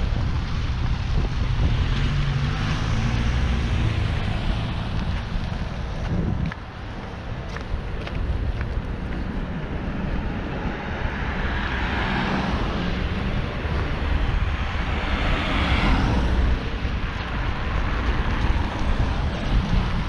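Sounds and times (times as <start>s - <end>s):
car passing: 0.0s - 20.0s
wind rumble on microphone: 0.0s - 20.0s.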